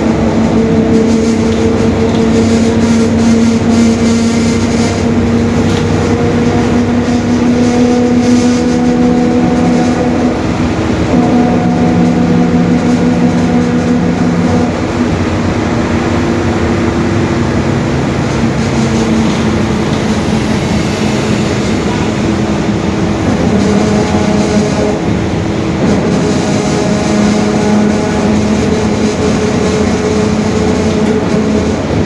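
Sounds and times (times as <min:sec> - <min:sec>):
bus drivetrain running noise: 0:00.0 - 0:32.0
tonal drone from differential: 0:00.0 - 0:32.0.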